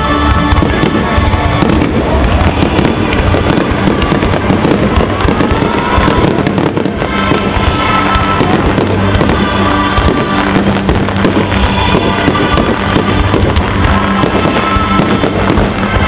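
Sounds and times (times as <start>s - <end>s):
background music: 0.0s - 16.0s
fireworks bursting and crackling: 0.0s - 16.0s.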